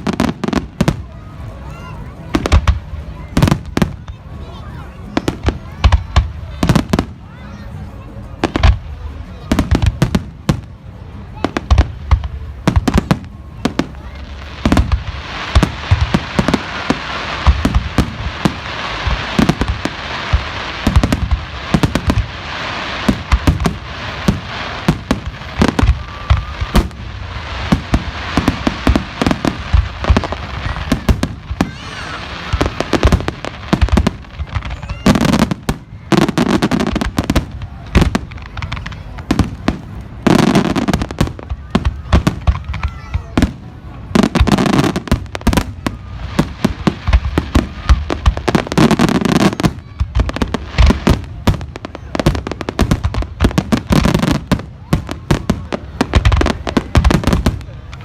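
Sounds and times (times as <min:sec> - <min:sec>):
fireworks bangs and crackling: 0:00.0 - 0:58.0
deep firework booms: 0:11.4 - 0:58.0.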